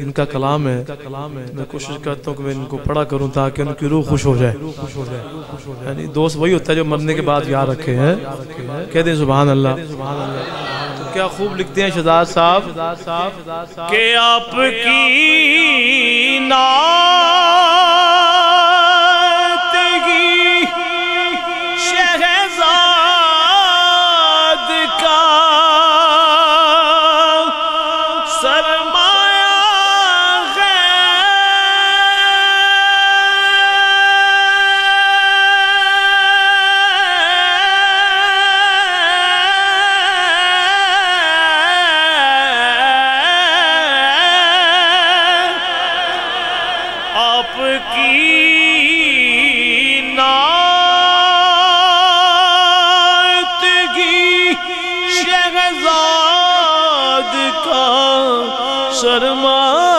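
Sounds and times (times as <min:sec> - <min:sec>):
man singing unaccompanied: 0:04.4 - 0:59.9.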